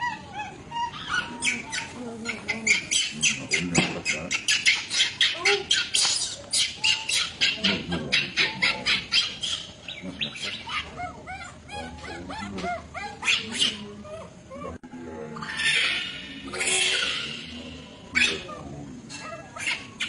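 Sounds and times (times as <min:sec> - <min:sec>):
baby monkey crying: 0:00.0 - 0:14.7, 0:15.5 - 0:20.0.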